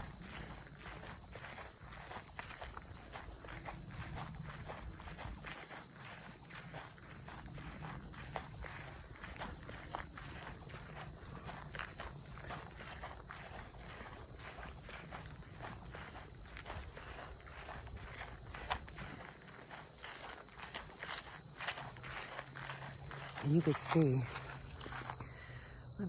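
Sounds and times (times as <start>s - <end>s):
crickets chirping: 0.0s - 26.0s
crunching footsteps: 0.0s - 26.0s.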